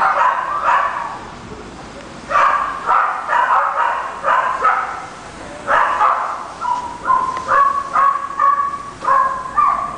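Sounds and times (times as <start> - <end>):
dog barking: 0.0 - 1.2, 2.3 - 5.1, 5.7 - 9.9.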